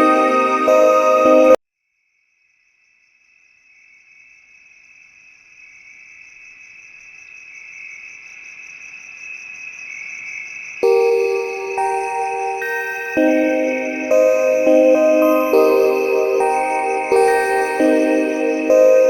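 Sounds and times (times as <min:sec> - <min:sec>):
insect trill: 0:00.0 - 0:19.0.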